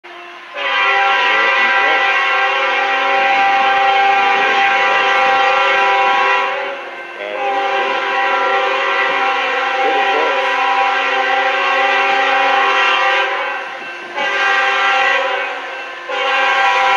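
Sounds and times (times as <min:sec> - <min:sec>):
locomotive air horn chord: 0:00.1 - 0:16.9.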